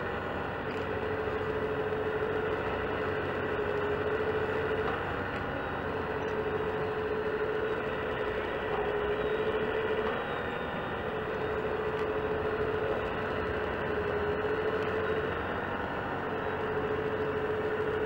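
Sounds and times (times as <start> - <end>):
hydraulic pump whine: 0.0 - 18.0.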